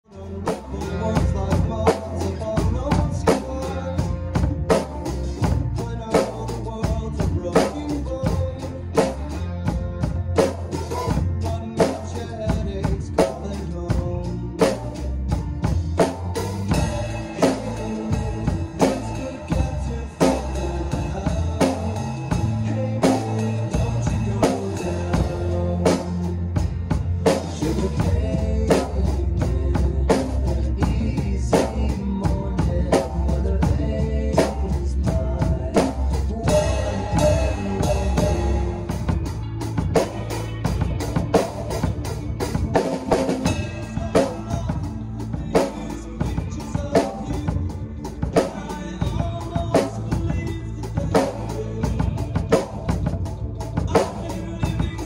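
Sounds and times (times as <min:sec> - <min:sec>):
drum kit playing a beat: 0:00.0 - 0:55.0
recorded song with singing and guitar: 0:00.0 - 0:55.0.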